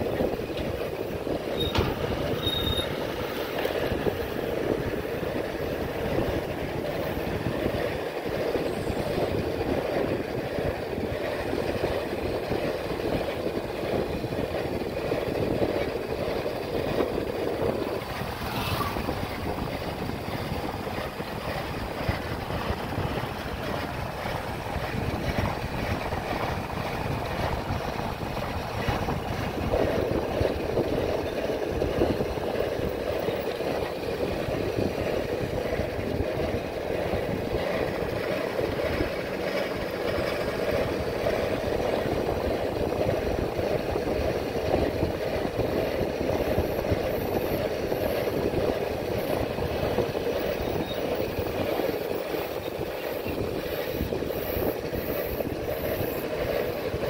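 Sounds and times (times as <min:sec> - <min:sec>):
road noise: 0:00.0 - 0:57.0
rumbling wind: 0:00.0 - 0:57.0.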